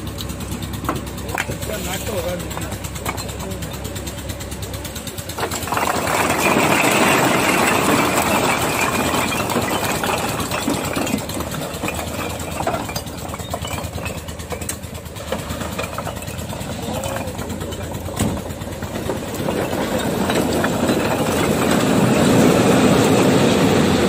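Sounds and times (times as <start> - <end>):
truck engine running: 0.0 - 24.0
bricks clattering onto a pile: 0.9 - 3.4, 5.4 - 23.3.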